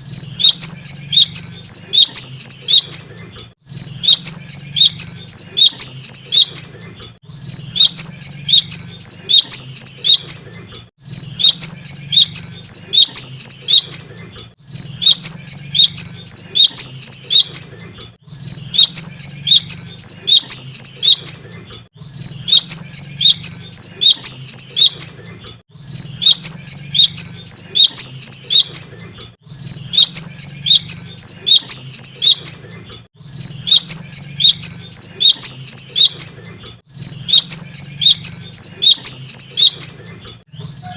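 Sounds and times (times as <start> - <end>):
bird singing high chirps: 0.0 - 40.9.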